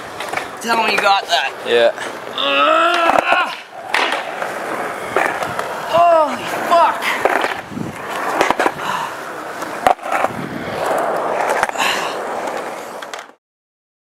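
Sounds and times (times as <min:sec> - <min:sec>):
skateboard clacks: 0:00.0 - 0:13.4
skateboard wheels rolling on concrete: 0:00.0 - 0:13.4.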